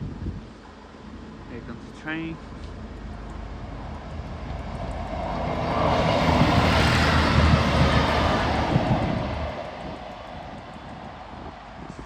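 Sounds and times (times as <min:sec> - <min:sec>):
train passing: 0:00.7 - 0:12.0.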